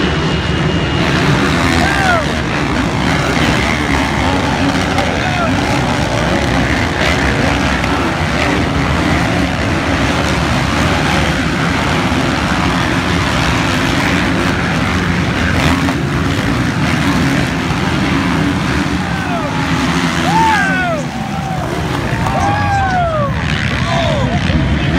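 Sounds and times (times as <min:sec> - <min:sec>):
dirt bike engines racing: 0:00.0 - 0:24.9.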